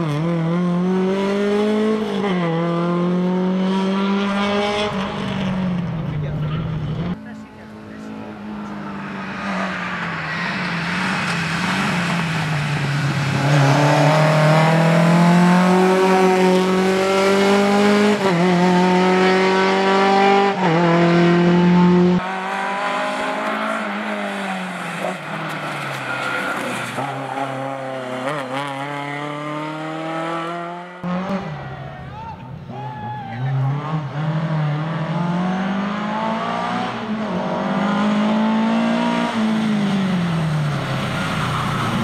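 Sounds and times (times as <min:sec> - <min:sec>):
rally car engine at full throttle: 0:00.0 - 0:32.0, 0:33.5 - 0:42.0.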